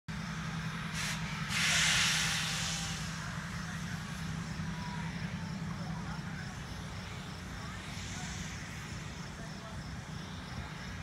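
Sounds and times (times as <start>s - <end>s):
locomotive hissing: 0.2s - 11.0s.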